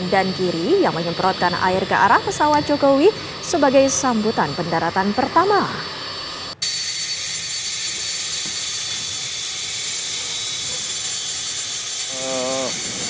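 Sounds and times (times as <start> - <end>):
jet engines running: 0.0 - 11.6.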